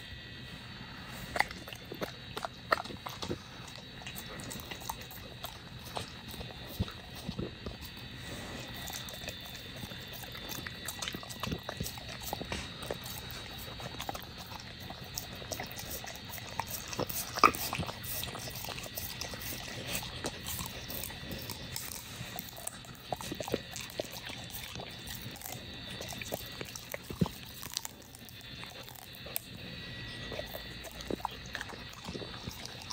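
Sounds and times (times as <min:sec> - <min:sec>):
dog licking and chewing: 0:01.2 - 0:32.9.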